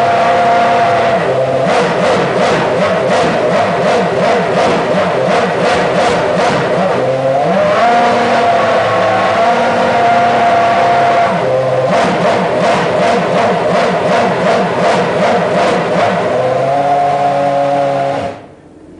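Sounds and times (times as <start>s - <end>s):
racing car engine revving: 0.0s - 18.9s.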